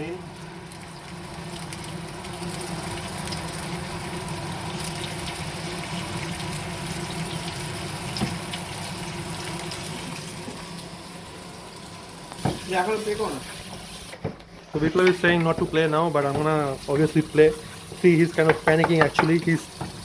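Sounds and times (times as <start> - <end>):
prawns sizzling in hot oil: 0.0 - 20.0.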